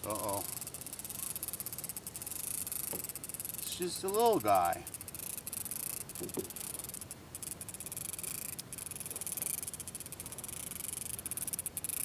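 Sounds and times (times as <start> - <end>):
fishing reel clicking whir: 0.0 - 12.0.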